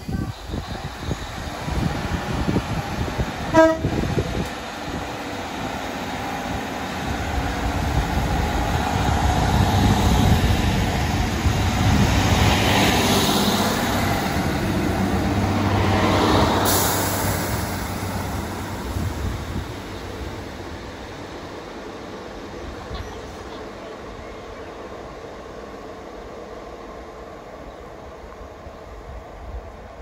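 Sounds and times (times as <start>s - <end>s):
train rumble passing by: 0.0s - 30.0s.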